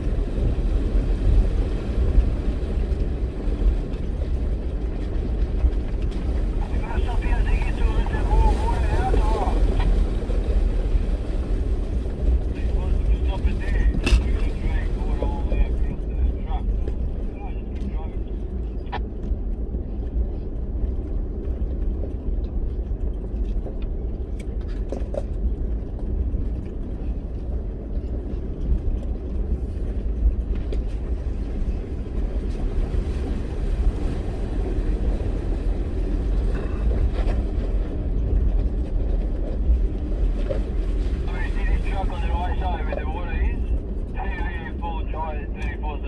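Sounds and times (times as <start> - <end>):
vehicle engine and tyres rumbling: 0.0 - 46.0.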